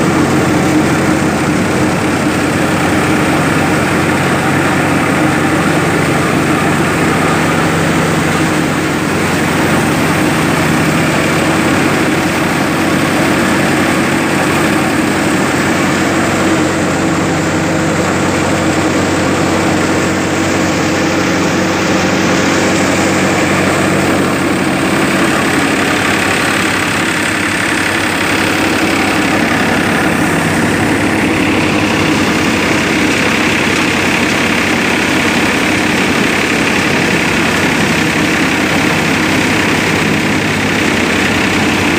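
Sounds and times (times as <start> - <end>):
thresher drum and fan drone: 0.0 - 41.9
tractor diesel engine: 0.0 - 41.9.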